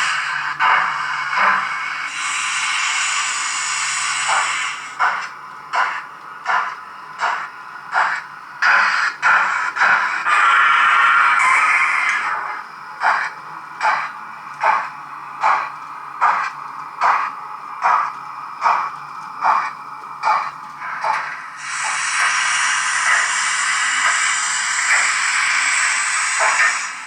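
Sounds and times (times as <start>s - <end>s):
steam hissing: 0.0s - 16.4s, 17.1s - 27.0s
steam locomotive chuffs: 0.0s - 27.0s.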